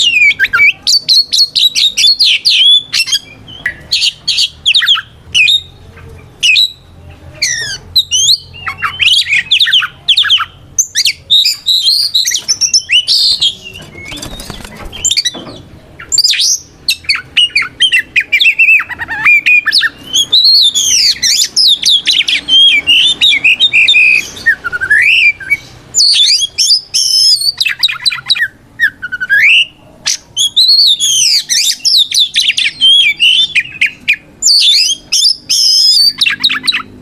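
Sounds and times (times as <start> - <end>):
harsh scratchy bird calls: 0.0 - 37.0
bird singing whistled notes: 6.4 - 6.8, 7.5 - 36.9.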